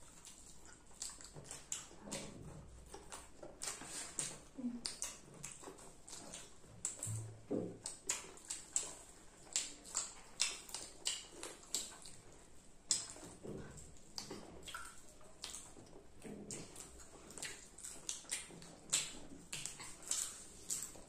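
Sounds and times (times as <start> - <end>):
children chewing crunchy food: 0.0 - 21.0
wet mouth clicks: 0.1 - 21.0.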